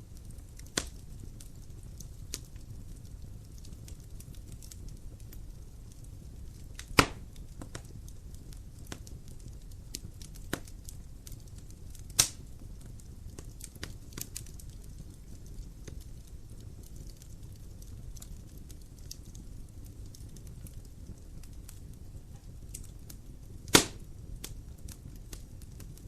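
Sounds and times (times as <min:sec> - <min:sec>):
wood fire crackling: 0:00.0 - 0:26.0
loud pops of fire: 0:00.1 - 0:26.0.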